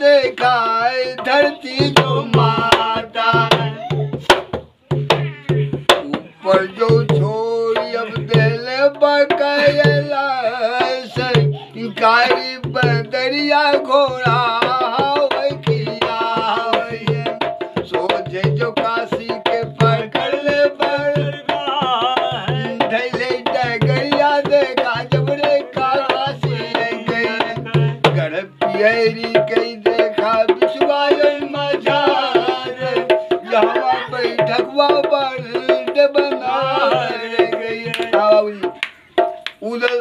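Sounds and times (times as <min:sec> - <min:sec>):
men singing folk ballad: 0:00.0 - 0:03.8, 0:06.1 - 0:38.8
barrel drum beat: 0:00.0 - 0:39.8.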